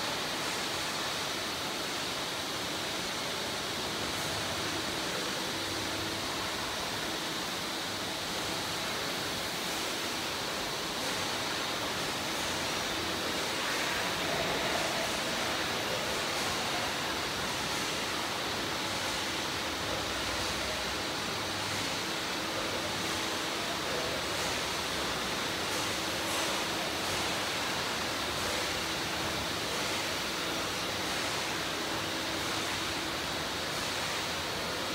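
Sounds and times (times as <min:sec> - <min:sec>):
printing machinery running: 0:00.0 - 0:34.9.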